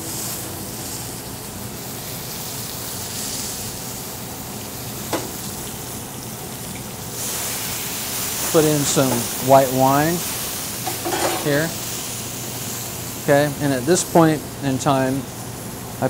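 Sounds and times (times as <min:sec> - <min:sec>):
fish sizzling in oil: 0:00.0 - 0:16.0.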